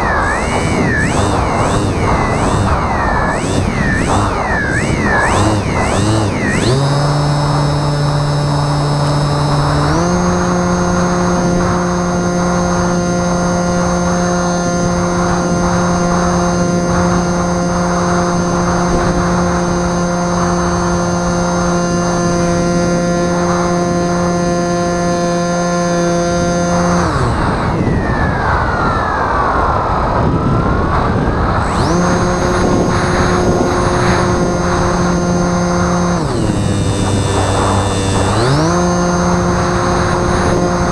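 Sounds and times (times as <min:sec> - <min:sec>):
electric motor and propeller whine: 0:00.0 - 0:40.9
wind noise: 0:00.0 - 0:40.9.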